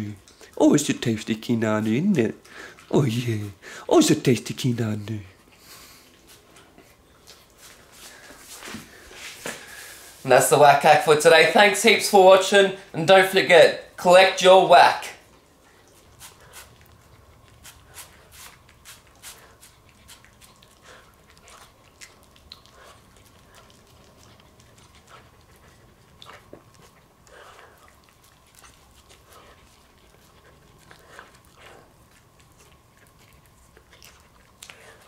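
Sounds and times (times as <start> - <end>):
dog chewing food: 0.2 - 10.0, 15.2 - 35.0.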